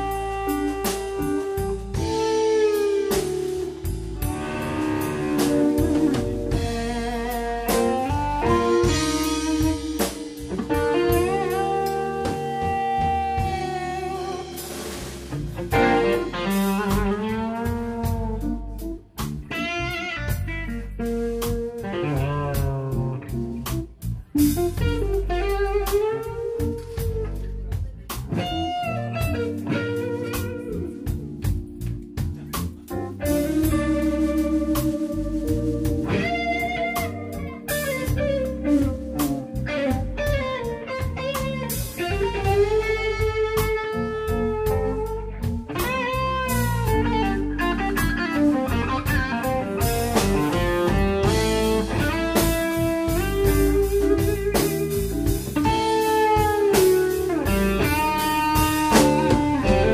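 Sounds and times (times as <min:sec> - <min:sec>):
overdriven electric guitar lead: 0:00.0 - 0:23.3, 0:28.3 - 0:59.9
drum kit: 0:00.0 - 0:59.9
electric bass: 0:00.0 - 0:59.9
electric piano: 0:00.0 - 0:59.9.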